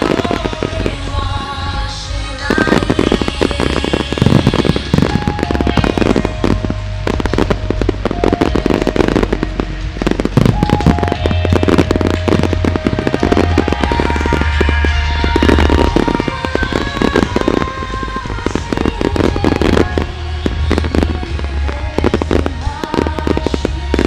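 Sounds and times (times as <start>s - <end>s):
fireworks bangs and crackles: 0.0s - 24.0s
music over loudspeakers: 0.0s - 24.0s.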